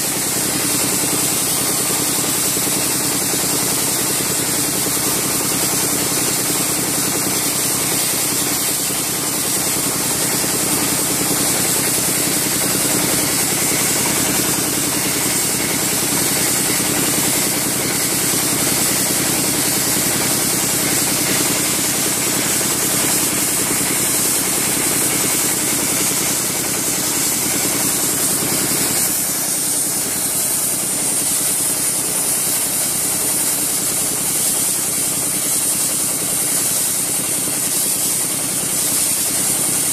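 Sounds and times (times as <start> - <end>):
machine humming: 0.0 - 35.1
sandblaster jet hissing on steel: 0.0 - 39.9.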